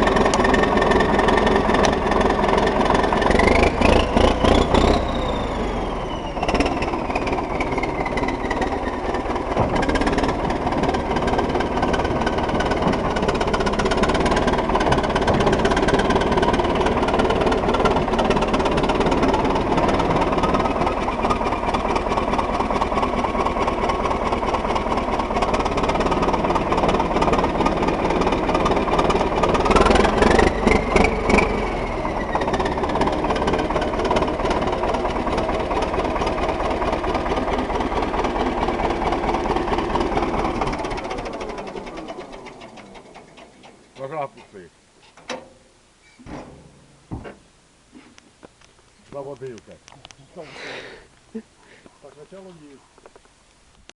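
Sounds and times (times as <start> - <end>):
engine revving: 0.0 - 44.2
tractor engine knocking clatter: 0.0 - 45.6.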